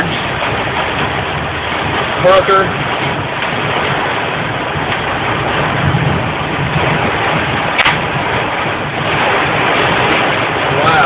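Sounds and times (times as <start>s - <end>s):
heavy rain on a car: 0.0s - 11.0s
low rumble from car: 0.0s - 11.0s.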